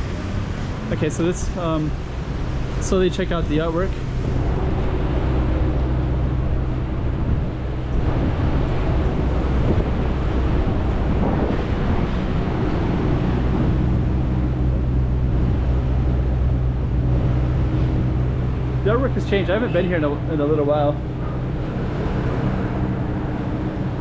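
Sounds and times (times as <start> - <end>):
even rushing noise: 0.0 - 24.0
motor humming: 0.0 - 24.0.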